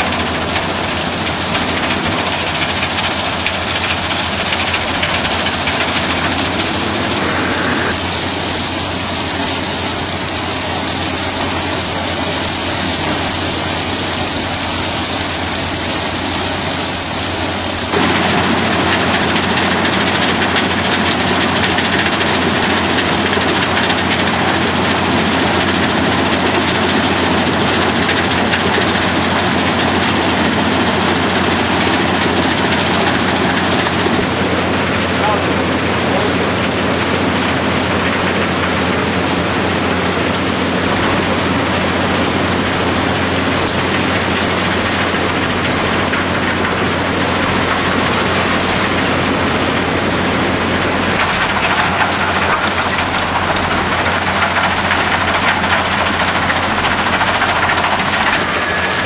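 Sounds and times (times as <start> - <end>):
industrial machinery hum: 0.0 - 59.0
continuous hiss: 0.1 - 59.0.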